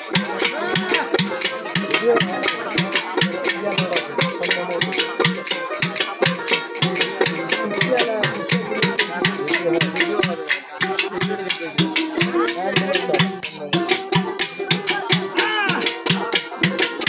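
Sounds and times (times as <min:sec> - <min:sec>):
drum beat: 0:00.0 - 0:17.0
jingling percussion: 0:00.0 - 0:17.0
wavering melody line: 0:00.0 - 0:17.0.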